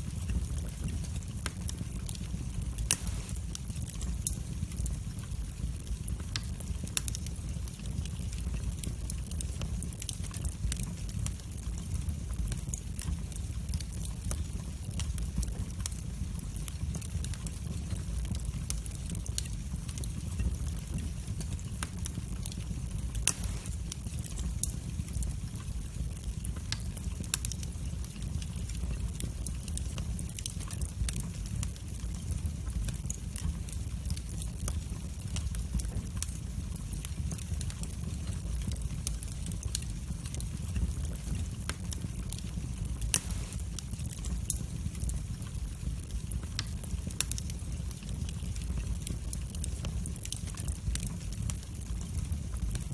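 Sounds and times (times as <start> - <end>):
fire crackling and popping: 0.0 - 52.9
fire flames rumbling: 0.0 - 52.9.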